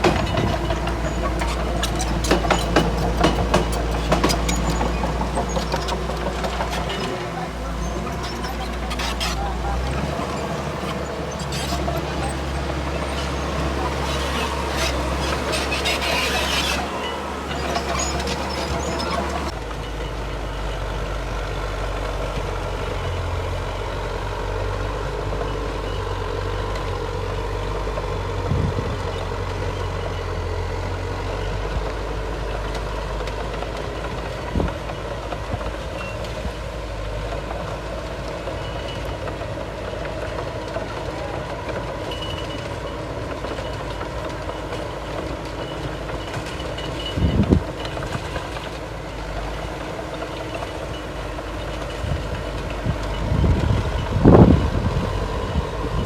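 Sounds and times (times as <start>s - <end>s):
diesel machinery engine rumble: 0.0s - 56.0s.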